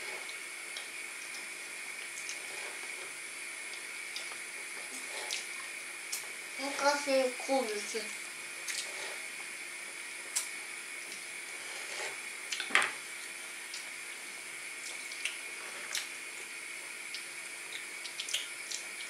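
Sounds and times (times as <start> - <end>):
steady watery hiss: 0.0 - 19.0.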